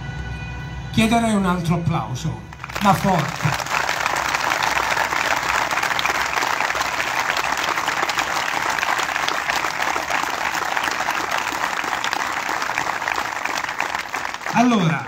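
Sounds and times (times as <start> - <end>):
crowd applauding: 2.5 - 15.0.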